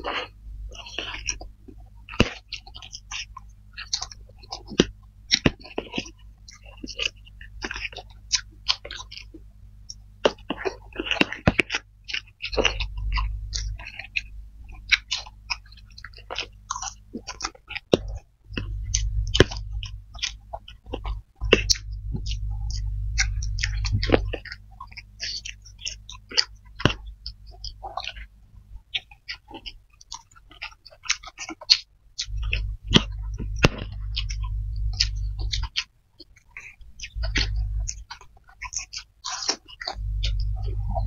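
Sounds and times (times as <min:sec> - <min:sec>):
low steady hum: 0:00.0 - 0:41.0
wet chewing mouth clicks: 0:00.0 - 0:41.0.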